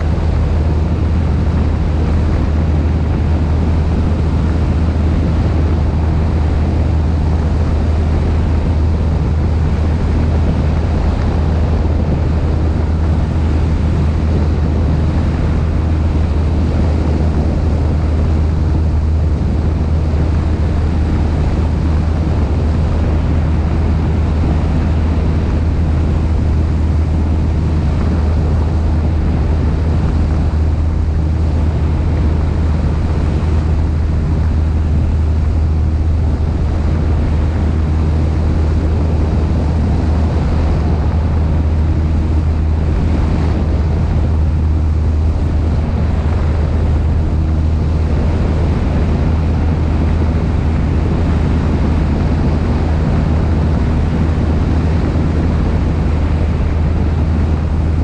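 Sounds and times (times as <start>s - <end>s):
airplane engine and propeller drone: 0.0s - 58.0s
wind rushing over microphone: 0.0s - 58.0s.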